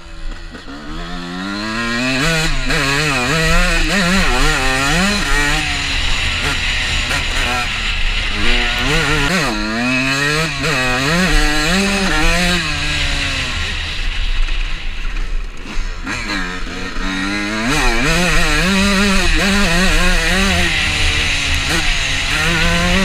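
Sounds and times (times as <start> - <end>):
motocross engine revving: 0.0 - 23.0.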